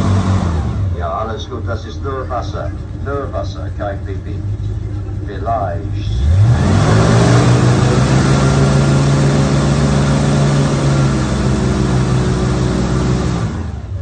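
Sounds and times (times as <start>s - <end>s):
bus engine revving: 0.0s - 14.0s.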